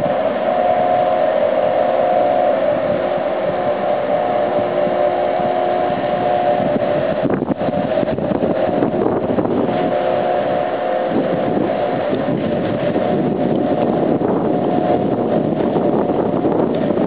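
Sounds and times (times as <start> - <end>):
buffeting: 0.0 - 17.0
ship machinery droning: 0.0 - 17.0.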